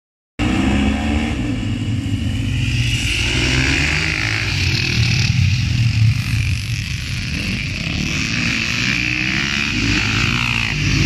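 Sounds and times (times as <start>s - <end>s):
motocross bikes revving: 0.4s - 11.0s.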